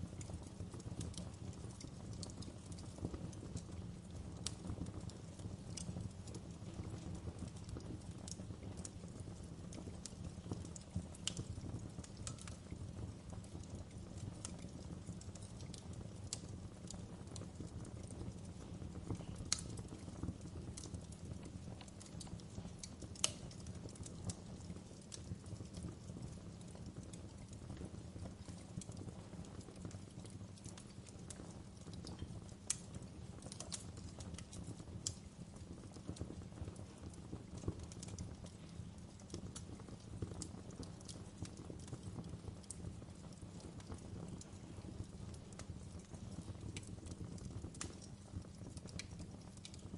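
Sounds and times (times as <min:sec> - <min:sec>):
low rumble of flames: 0:00.0 - 0:49.9
wood fire crackling and popping: 0:00.0 - 0:49.9.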